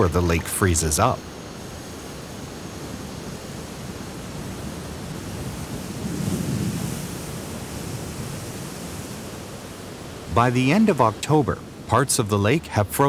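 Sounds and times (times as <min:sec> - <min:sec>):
wind and waves on a lake: 0:00.0 - 0:13.0.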